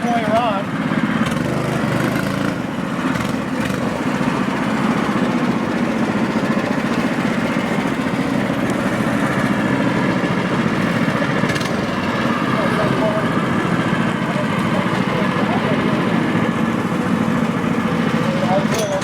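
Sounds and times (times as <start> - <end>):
small kart engine running: 0.0 - 19.0.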